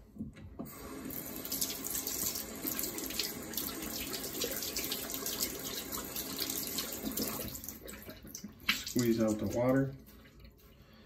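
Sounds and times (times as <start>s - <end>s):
tap water running into sink: 0.6s - 9.8s.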